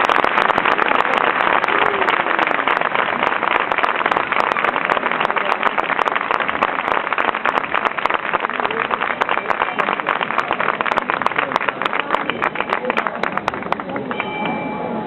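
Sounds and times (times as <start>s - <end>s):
faint voices: 0.5s - 15.0s.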